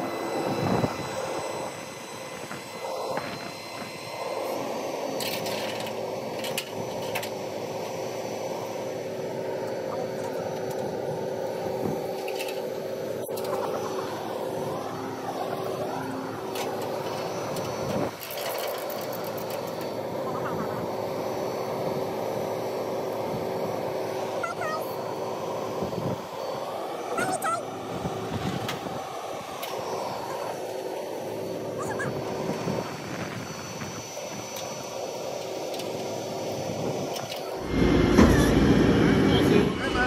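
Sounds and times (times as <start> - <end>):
tow truck humming: 0.0 - 40.0.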